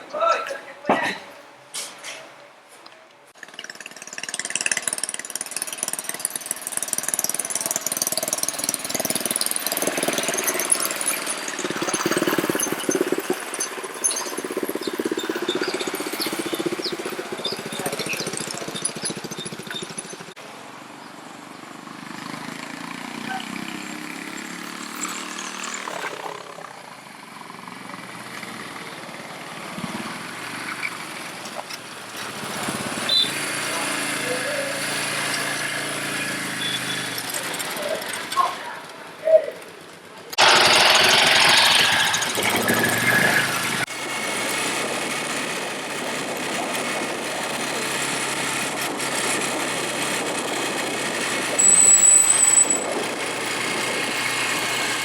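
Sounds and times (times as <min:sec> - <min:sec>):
atv engines revving: 0:03.3 - 0:20.5, 0:21.5 - 0:55.0.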